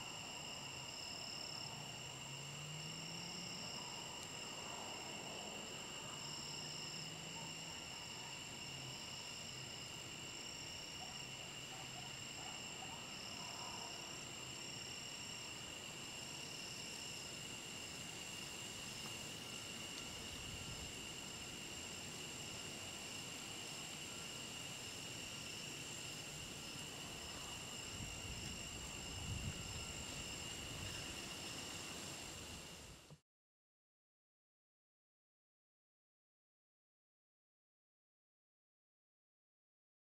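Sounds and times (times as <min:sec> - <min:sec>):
insects trilling: 0:00.0 - 0:33.1.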